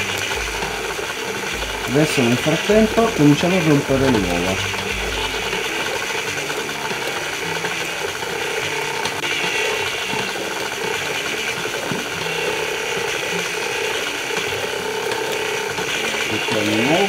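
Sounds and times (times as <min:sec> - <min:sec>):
stand mixer motor whirring: 0:00.0 - 0:17.0.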